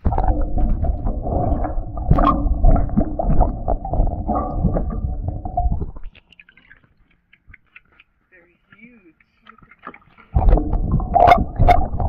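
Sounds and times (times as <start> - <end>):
horse drinking heard underwater: 0.0 - 12.0.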